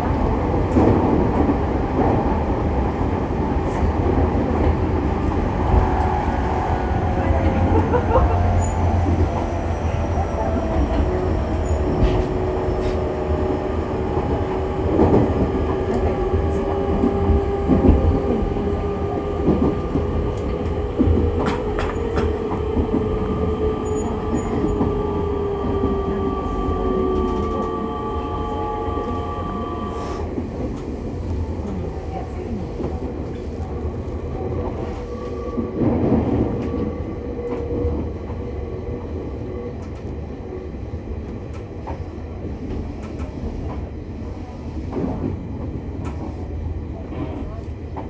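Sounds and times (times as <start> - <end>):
low rail rumble: 0.0 - 48.0.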